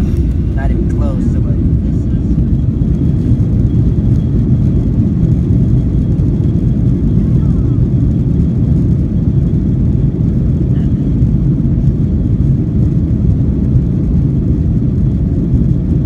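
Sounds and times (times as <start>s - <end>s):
jet engines roaring in cabin: 0.0s - 16.0s.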